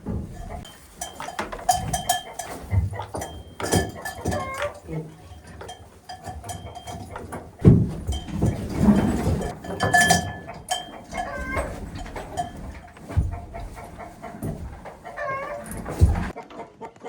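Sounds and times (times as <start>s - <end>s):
rustling: 0.0s - 16.4s.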